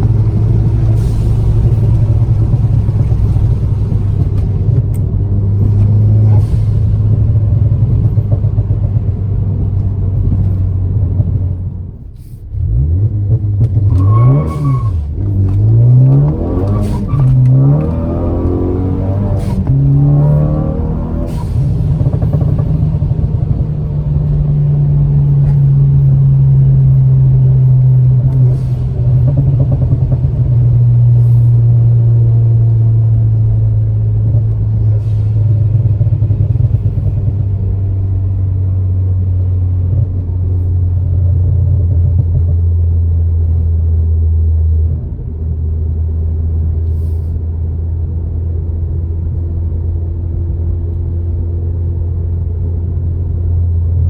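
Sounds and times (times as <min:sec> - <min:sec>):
car engine droning while driving: 0:00.0 - 0:54.0.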